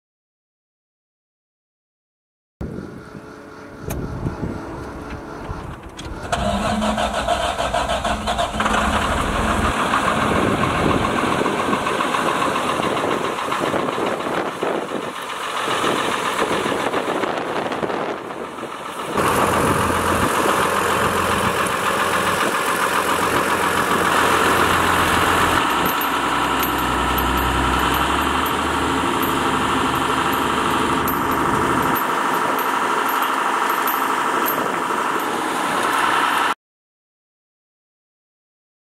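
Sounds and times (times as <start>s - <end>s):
street sweeper machinery drone: 2.6s - 36.6s.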